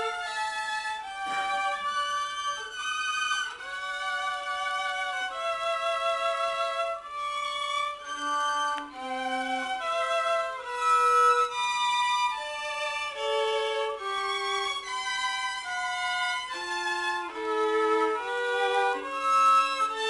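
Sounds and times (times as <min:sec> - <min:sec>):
two violins playing slow tune: 0:00.0 - 0:20.0.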